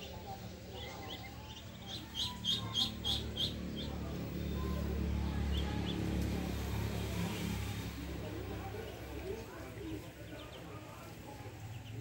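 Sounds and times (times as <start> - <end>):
ducklings peeping: 0.0 - 6.3, 8.6 - 12.0.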